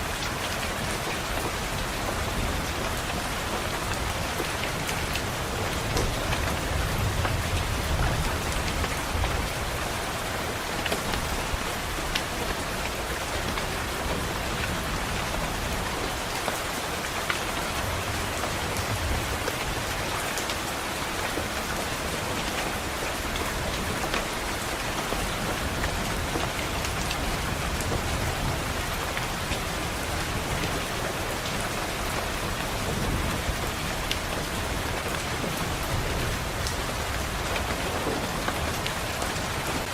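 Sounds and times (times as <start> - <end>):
rain on window glass: 0.1 - 39.9.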